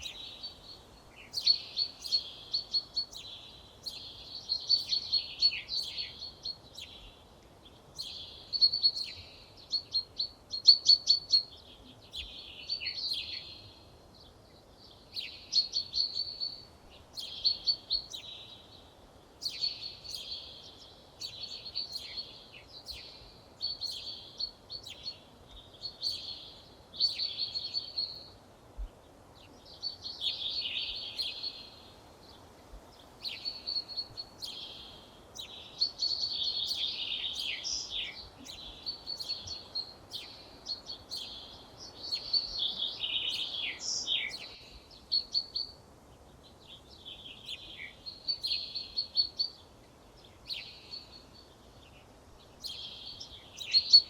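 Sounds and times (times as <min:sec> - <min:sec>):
faint background noise: 0:00.0 - 0:54.0
songbird singing: 0:00.0 - 0:54.0.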